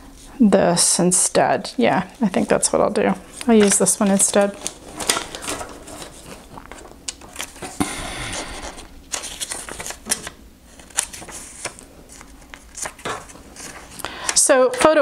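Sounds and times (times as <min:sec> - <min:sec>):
paper rustling: 0:02.2 - 0:14.4.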